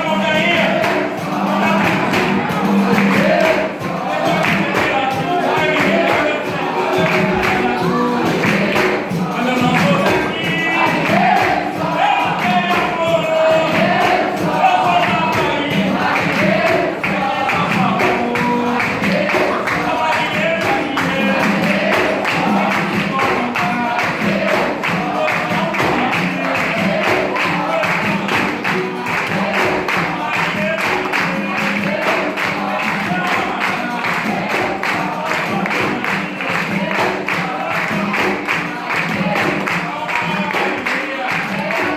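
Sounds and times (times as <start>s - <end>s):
group of voices singing: 0.0s - 41.9s
hand claps: 0.0s - 41.9s
tambourine and percussion: 0.0s - 41.9s.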